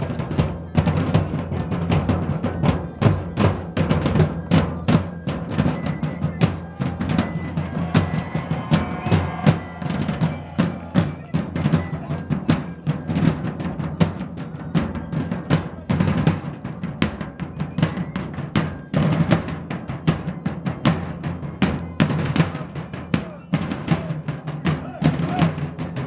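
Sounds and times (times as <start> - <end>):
deep booming drums: 0.0 - 26.0
drum corps playing: 0.0 - 26.0.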